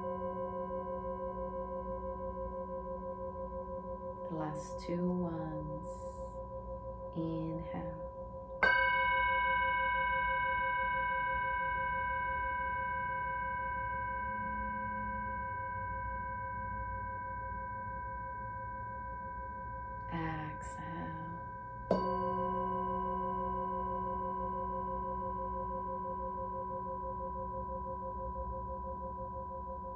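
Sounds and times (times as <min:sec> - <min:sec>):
singing bowl ringing: 0:00.0 - 0:29.9.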